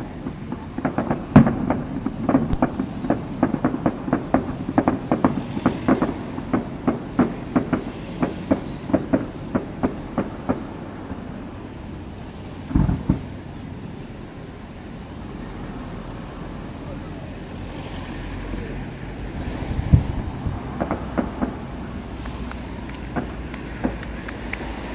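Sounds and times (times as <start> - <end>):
fireworks bangs: 0.0 - 24.9.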